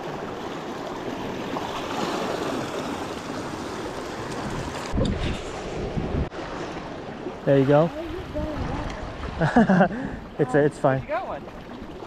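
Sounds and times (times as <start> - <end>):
sea surf washing: 0.0 - 12.0.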